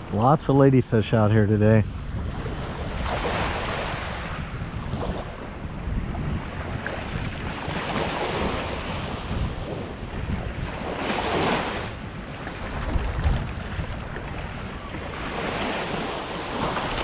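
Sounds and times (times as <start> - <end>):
wind buffeting microphone: 0.0 - 17.0
surf breaking on beach: 2.1 - 17.0.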